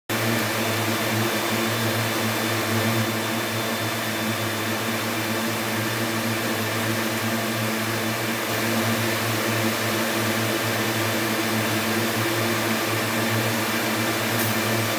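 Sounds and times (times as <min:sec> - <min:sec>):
textile machinery hum and hiss: 0:00.1 - 0:14.9.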